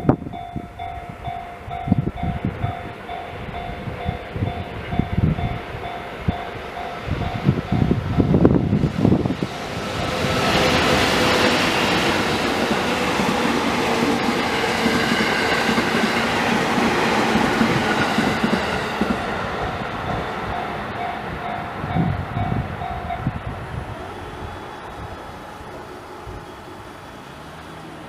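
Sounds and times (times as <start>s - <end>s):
crossing warning bell ringing: 0.0s - 28.0s
train passing: 0.0s - 28.0s.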